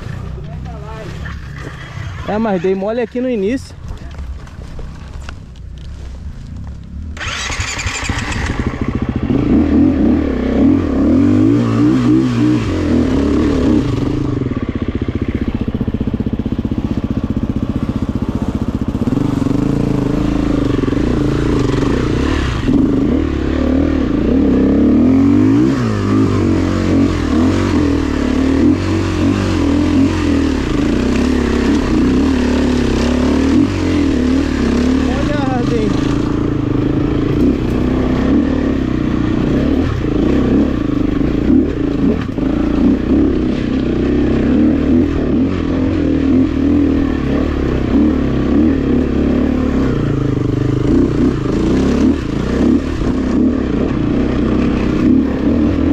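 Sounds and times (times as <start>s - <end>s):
dirt bike engine revving: 7.1s - 55.9s.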